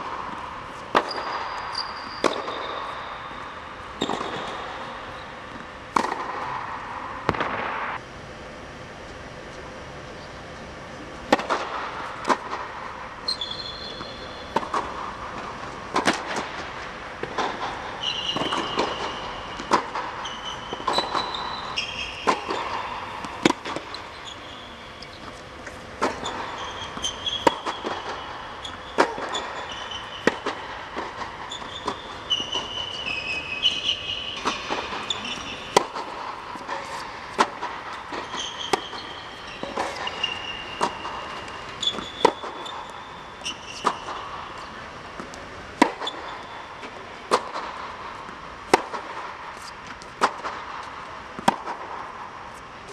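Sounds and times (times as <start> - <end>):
shoes squeaking on court: 0.2 - 8.0, 11.4 - 52.7.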